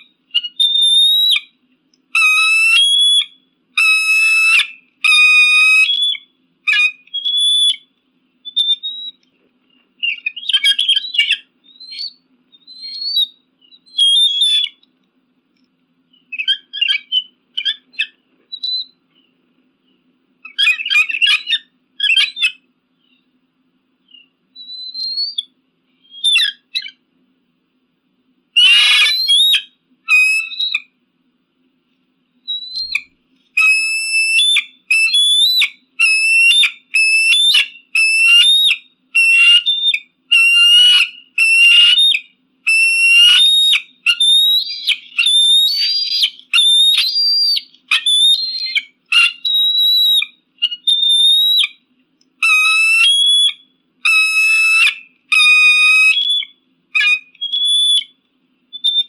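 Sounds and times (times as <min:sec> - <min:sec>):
eagle calling: 0:00.0 - 0:14.9, 0:16.1 - 0:19.3, 0:20.4 - 0:23.3, 0:24.0 - 0:27.1, 0:28.6 - 0:31.0, 0:32.5 - 0:59.0.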